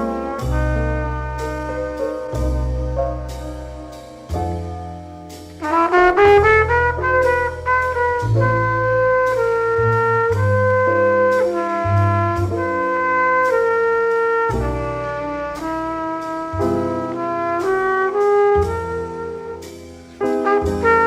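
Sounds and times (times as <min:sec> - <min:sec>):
jazz trumpet playing: 0:00.0 - 0:04.7, 0:05.3 - 0:21.0
bass line: 0:00.0 - 0:21.0.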